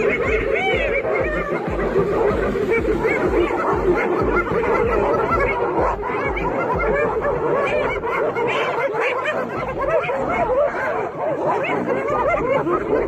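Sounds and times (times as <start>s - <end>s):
hyenas cackling: 0.0s - 13.0s.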